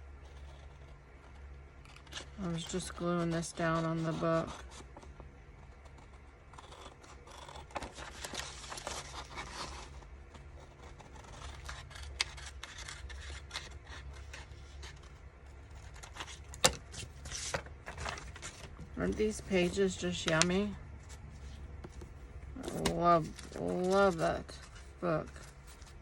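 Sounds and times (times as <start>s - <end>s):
low steady hum: 0.0s - 26.0s
paper and card rustling: 0.3s - 26.0s.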